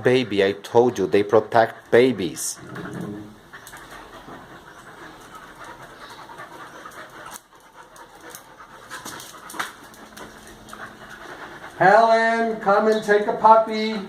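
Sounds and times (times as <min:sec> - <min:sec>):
dog panting: 0:00.1 - 0:13.7.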